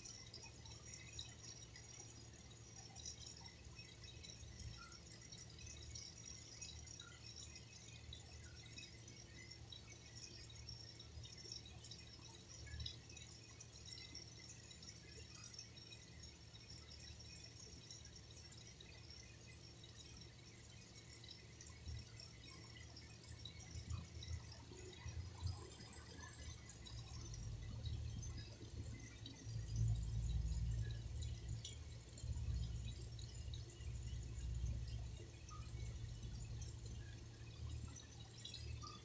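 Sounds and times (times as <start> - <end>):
water dripping and trickling: 0.1 - 39.0.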